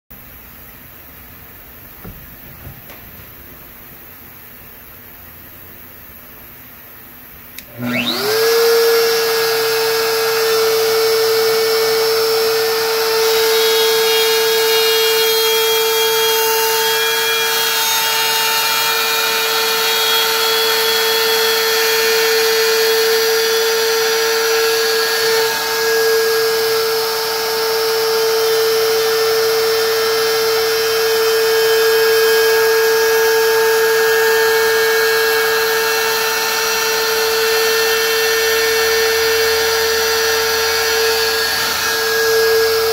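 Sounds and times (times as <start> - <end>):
router whining: 2.0 - 3.9, 7.6 - 42.9
router bit cutting wood: 7.6 - 42.9.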